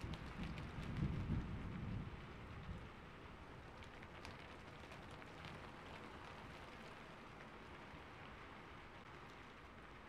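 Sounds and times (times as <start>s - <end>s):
faint rain: 0.0s - 10.0s.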